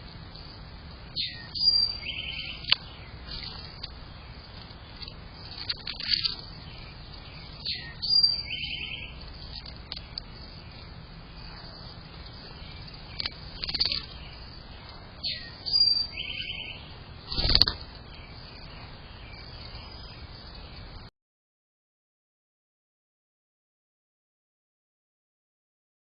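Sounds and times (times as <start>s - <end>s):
birds singing: 0.0s - 21.1s.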